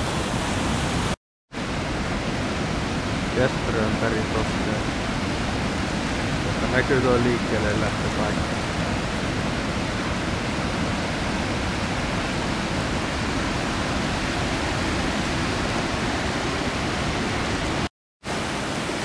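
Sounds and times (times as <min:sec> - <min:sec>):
rushing roar of rapids: 0:00.0 - 0:19.0.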